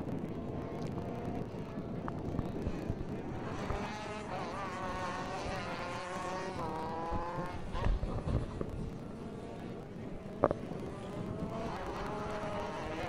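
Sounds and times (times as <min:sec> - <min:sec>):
two-stroke kart engines buzzing: 0:00.0 - 0:13.0.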